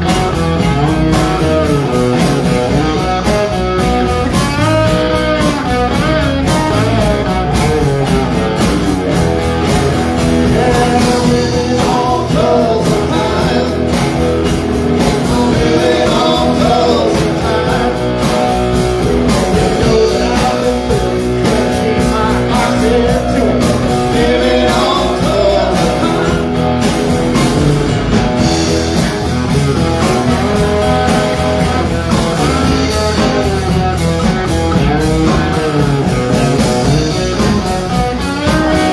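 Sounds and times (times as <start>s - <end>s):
country rock band playing: 0.0s - 38.9s
electric guitar: 0.0s - 38.9s.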